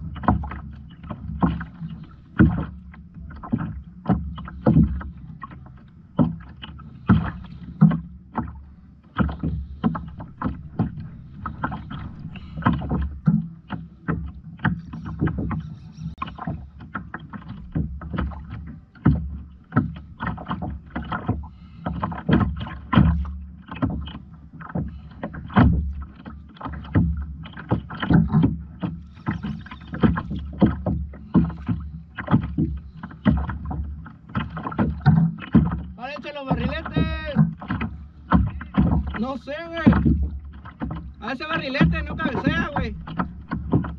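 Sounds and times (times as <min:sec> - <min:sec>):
water slapping against kayak hull: 0:00.0 - 0:43.9.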